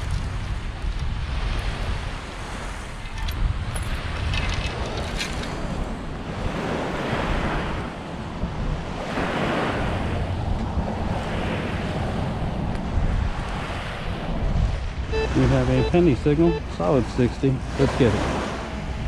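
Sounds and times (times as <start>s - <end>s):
surf washing on beach: 0.0s - 19.0s
wind buffeting microphone: 0.0s - 19.0s.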